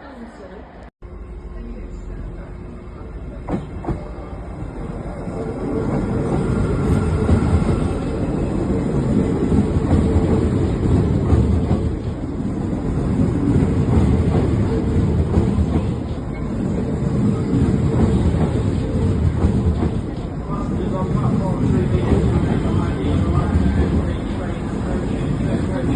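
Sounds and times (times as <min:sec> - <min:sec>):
train rumbling on rails: 0:00.0 - 0:25.9.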